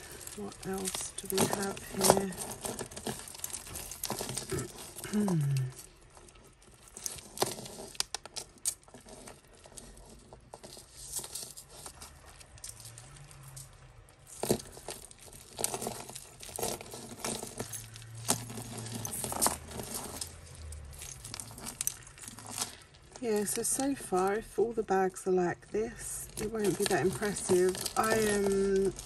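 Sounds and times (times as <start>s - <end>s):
jewellery pieces clinking: 0.0s - 24.6s, 26.0s - 29.0s
plastic bag crinkling: 0.0s - 24.8s, 25.6s - 29.0s.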